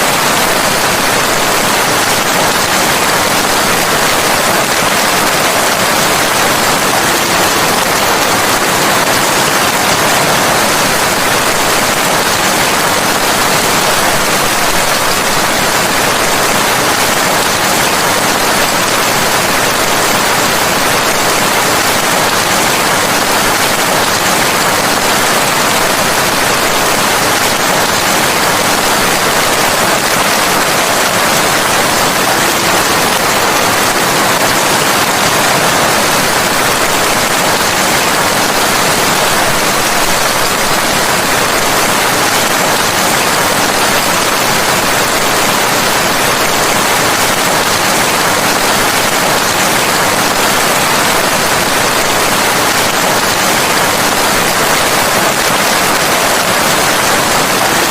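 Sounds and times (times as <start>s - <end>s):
loud rain falling: 0.0s - 57.9s.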